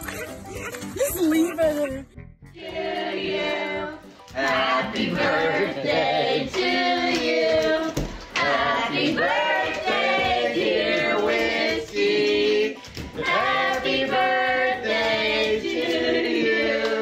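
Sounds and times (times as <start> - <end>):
group of people singing: 2.6 - 17.0.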